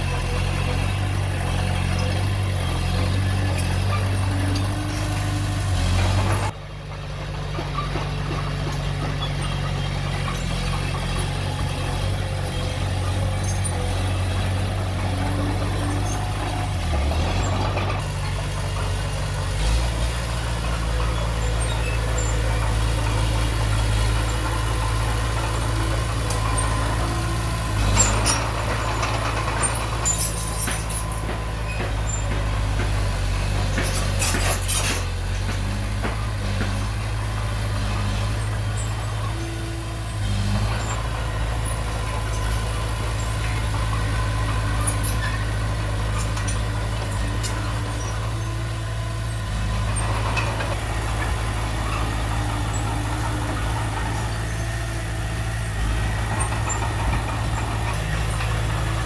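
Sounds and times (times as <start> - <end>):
diesel engine running: 0.0 - 59.0
metallic clanks and squeals: 0.0 - 59.0.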